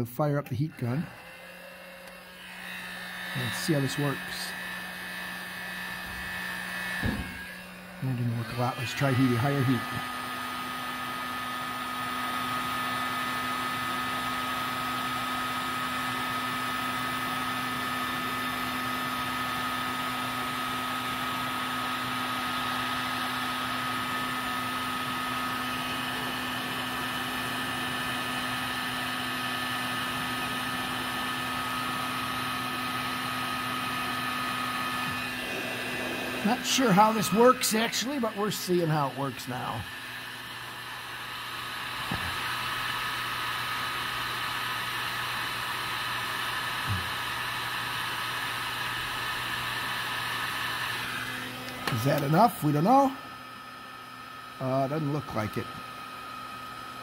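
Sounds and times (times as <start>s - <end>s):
heat gun whooshing hum: 0.6s - 57.0s.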